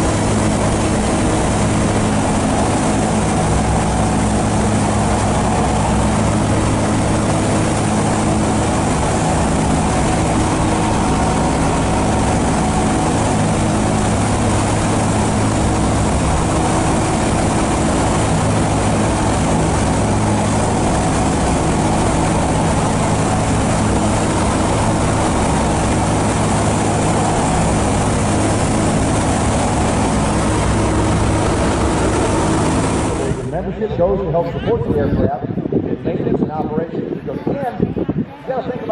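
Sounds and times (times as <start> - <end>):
propeller aircraft engines droning: 0.0 - 38.9.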